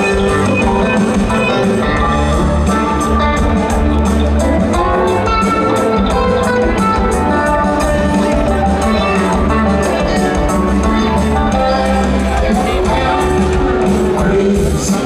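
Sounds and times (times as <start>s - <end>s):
electric guitar lines: 0.0s - 15.0s
live rock band playing: 0.0s - 15.0s.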